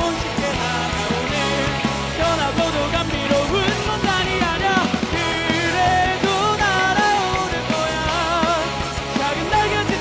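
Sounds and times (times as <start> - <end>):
bass guitar: 0.0 - 10.0
drum kit beat: 0.0 - 10.0
electric guitars: 0.0 - 10.0
keyboard: 0.0 - 10.0
person singing: 0.0 - 10.0.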